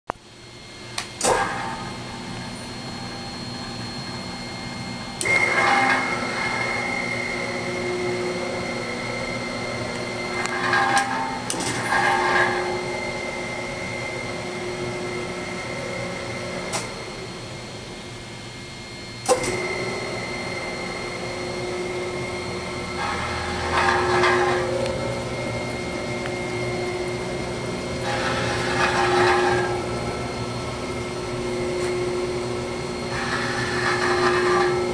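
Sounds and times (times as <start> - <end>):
mixer motor hum and whine: 0.1 - 34.9.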